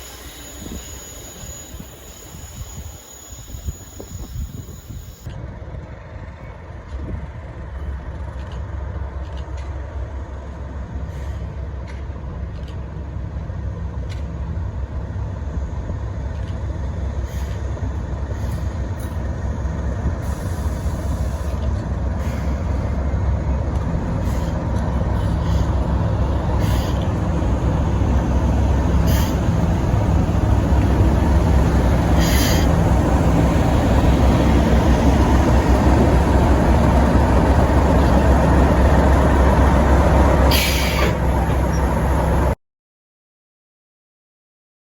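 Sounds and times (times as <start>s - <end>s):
diesel locomotive engine drone: 0.0s - 42.6s.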